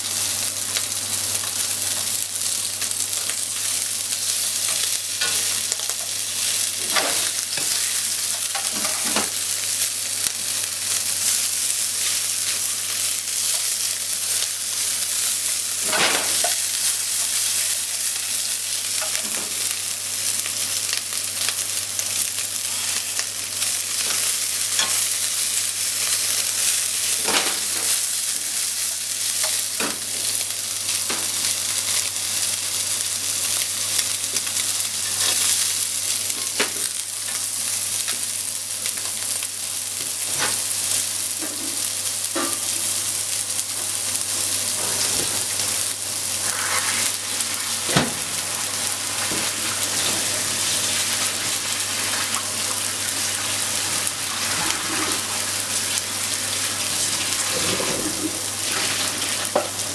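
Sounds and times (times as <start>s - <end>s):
fish sizzling in a frying pan: 0.0s - 59.9s.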